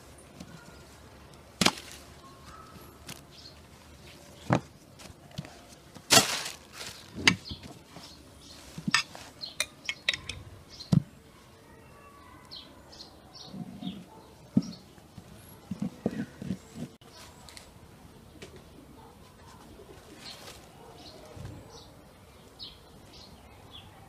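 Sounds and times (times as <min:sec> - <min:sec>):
small birds chirping: 0:00.0 - 0:01.4, 0:02.1 - 0:04.7, 0:06.8 - 0:24.0.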